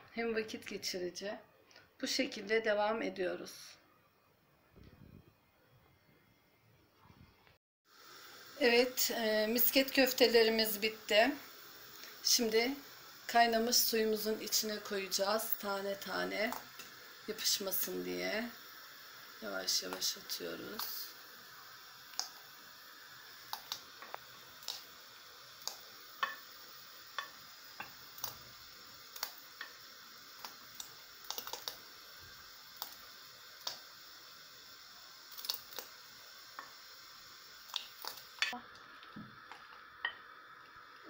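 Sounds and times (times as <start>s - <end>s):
boiling water hissing: 7.8s - 41.0s.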